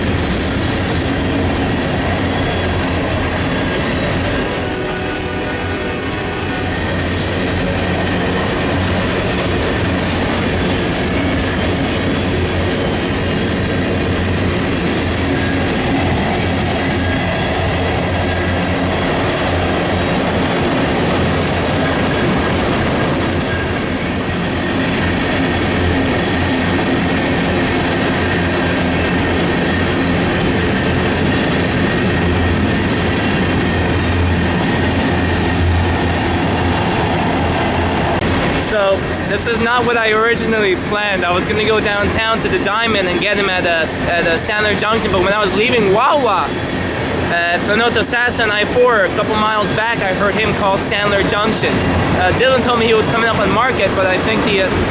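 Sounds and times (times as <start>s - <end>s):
freight train wheels on rails: 0.0s - 54.9s.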